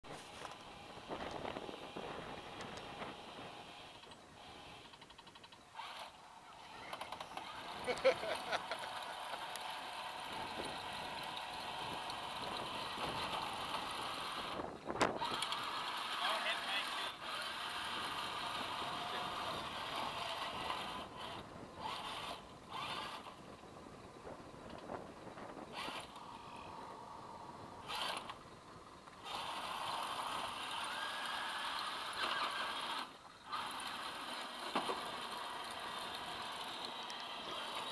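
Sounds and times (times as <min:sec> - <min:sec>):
toy tank driving on wood: 0:00.1 - 0:23.7, 0:24.6 - 0:37.9.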